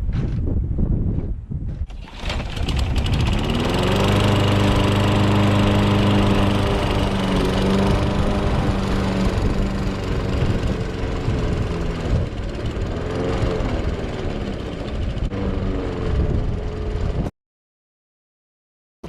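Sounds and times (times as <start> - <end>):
lawnmower engine running: 1.9 - 17.3.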